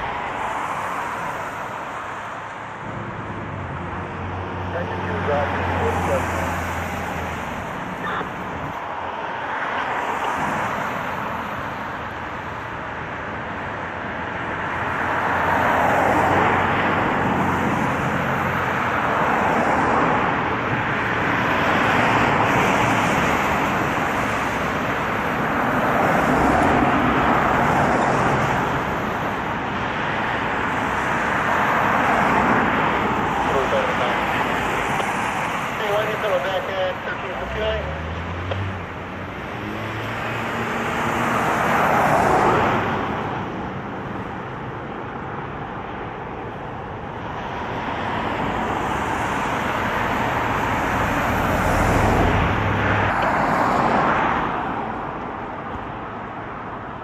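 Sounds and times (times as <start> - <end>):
vehicles passing by: 0.0 - 57.0.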